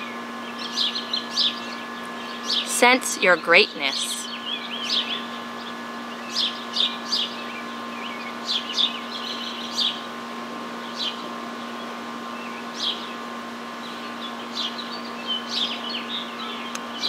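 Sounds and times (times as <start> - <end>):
small birds chirping: 0.0 - 10.2, 10.8 - 17.0
faint steady hum: 0.0 - 17.0.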